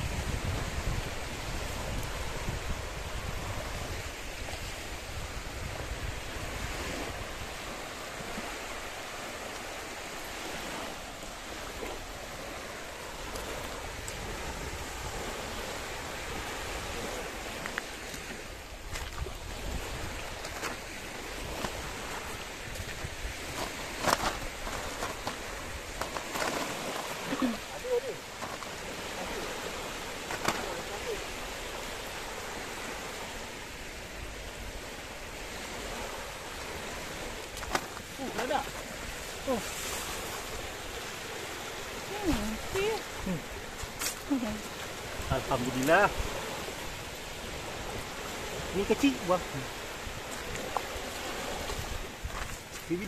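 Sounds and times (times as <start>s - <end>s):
small waves washing ashore: 0.0s - 53.0s
wind buffeting microphone: 0.0s - 53.0s.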